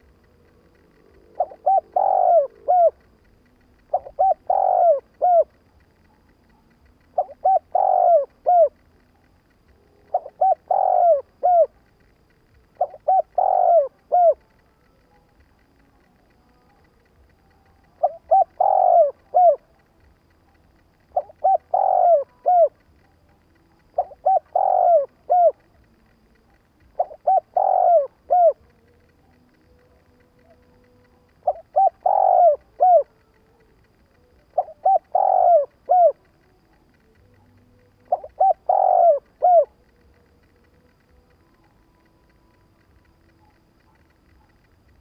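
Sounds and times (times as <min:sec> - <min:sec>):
dove cooing: 0:00.0 - 0:45.0.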